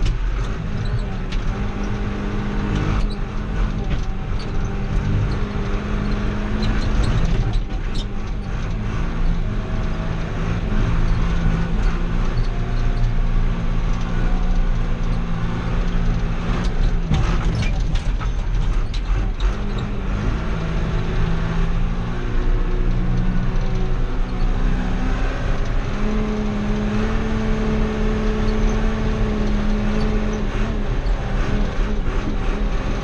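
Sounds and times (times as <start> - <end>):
cab and loader rattling: 0.0 - 33.0
tractor engine running: 0.0 - 33.0.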